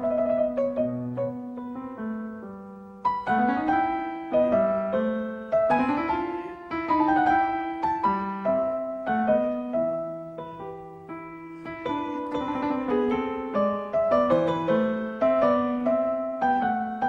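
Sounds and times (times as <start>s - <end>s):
solo piano piece: 0.0s - 17.0s.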